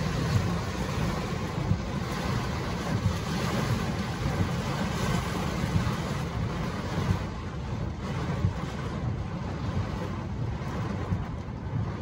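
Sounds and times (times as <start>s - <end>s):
heavy rain on car windshield: 0.0s - 12.0s
low rumble of car and wind: 0.0s - 12.0s.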